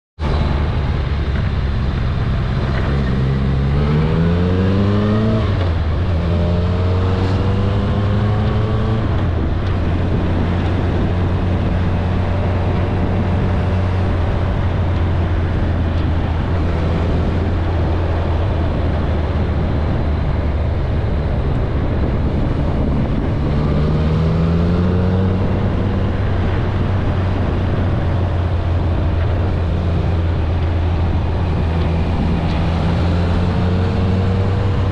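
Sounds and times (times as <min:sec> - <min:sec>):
motorcycle engine accelerating: 0:00.2 - 0:34.9
wind and road rush: 0:00.2 - 0:34.9.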